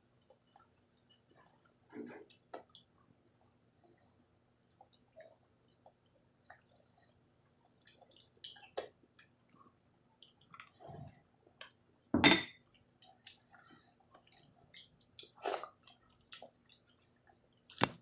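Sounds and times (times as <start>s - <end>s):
chewing with wet smacks: 0.0s - 11.0s, 12.6s - 18.0s.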